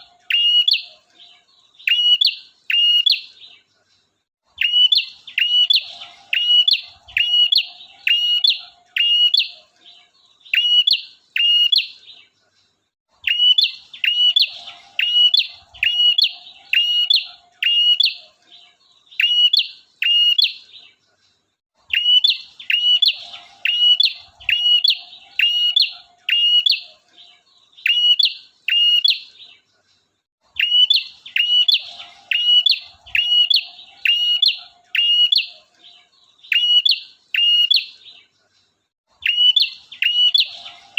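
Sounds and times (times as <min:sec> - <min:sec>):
faint buzzy bird chatter: 0:00.0 - 0:40.9.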